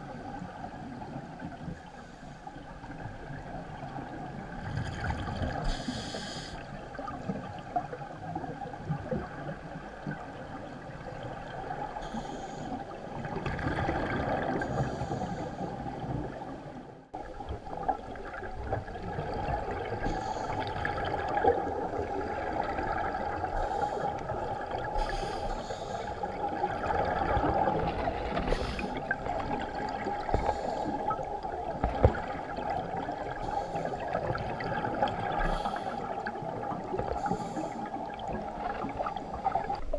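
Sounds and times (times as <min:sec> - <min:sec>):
exhaled bubbles gurgling underwater: 0:00.0 - 0:39.9.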